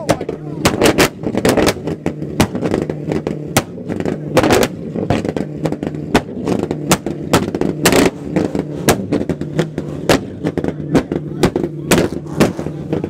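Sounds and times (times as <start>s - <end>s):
car engine at high revs: 0.0s - 13.0s
sharp exhaust cracks: 0.0s - 13.0s.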